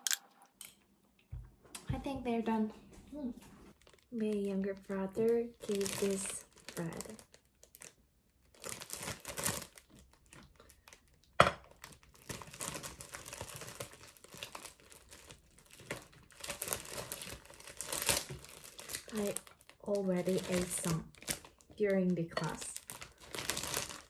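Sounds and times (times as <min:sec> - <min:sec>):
plastic bag crinkling: 0:03.7 - 0:24.0.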